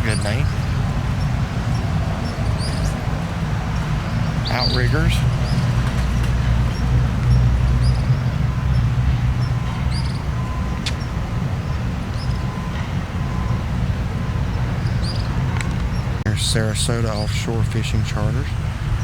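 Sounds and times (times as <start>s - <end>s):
low engine rumble idling: 0.0s - 19.0s.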